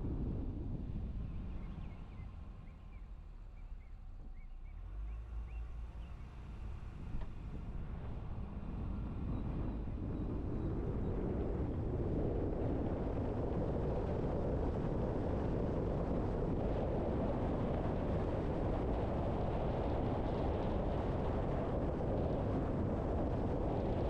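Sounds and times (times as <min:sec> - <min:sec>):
car tyre and road noise: 0:00.0 - 0:24.0.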